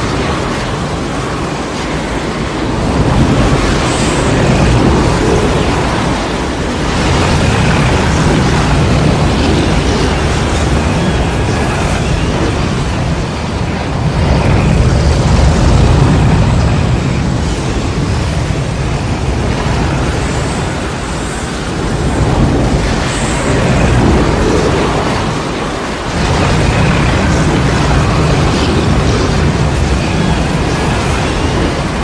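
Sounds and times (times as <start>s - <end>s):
tornado wind with low rumble: 0.0s - 32.0s.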